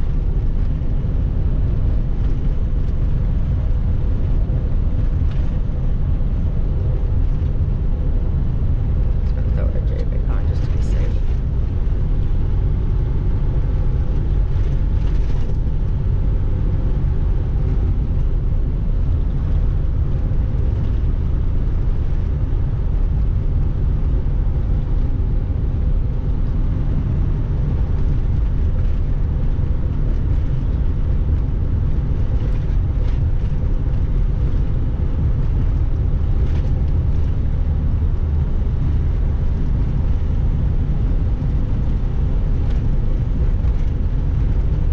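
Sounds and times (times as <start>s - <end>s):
truck engine and tyres rumbling: 0.0s - 44.9s.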